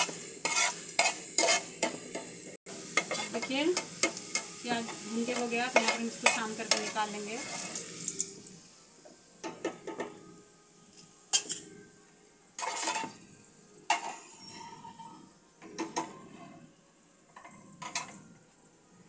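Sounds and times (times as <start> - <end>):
oil sizzling: 0.0 - 19.0.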